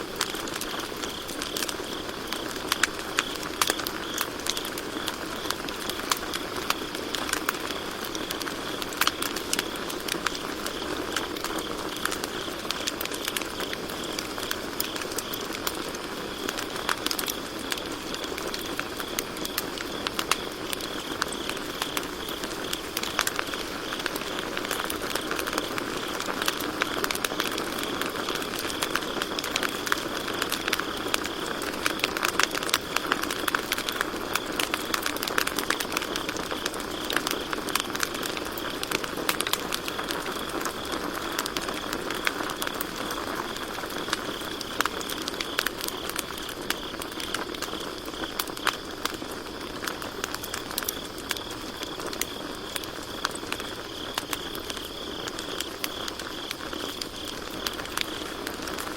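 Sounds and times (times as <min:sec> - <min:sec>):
campfire crackling and popping: 0:00.0 - 0:58.9
crickets chirring: 0:00.0 - 0:58.9.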